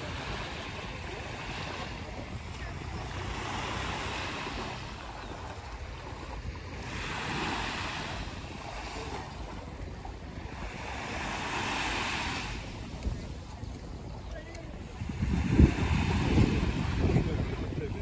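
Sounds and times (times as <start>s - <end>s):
waves breaking on sandy beach: 0.0s - 18.0s.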